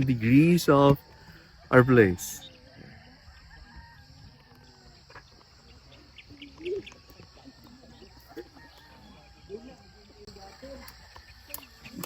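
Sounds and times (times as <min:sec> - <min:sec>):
faint animal and bird calls: 0:00.0 - 0:12.0.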